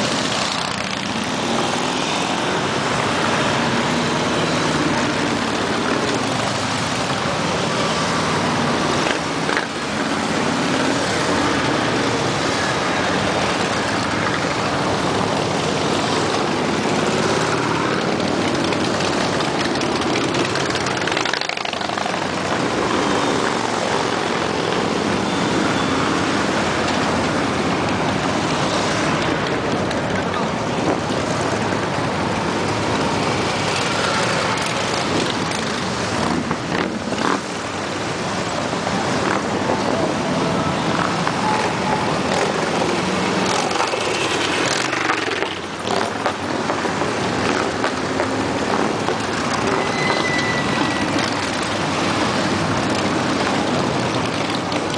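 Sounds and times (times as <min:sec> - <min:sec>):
motorcycles riding past: 0:00.0 - 0:54.9.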